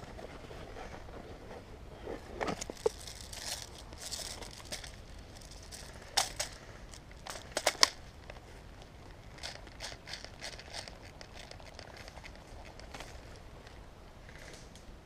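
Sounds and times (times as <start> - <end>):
rustling and crackling of movement: 0.0 - 15.0.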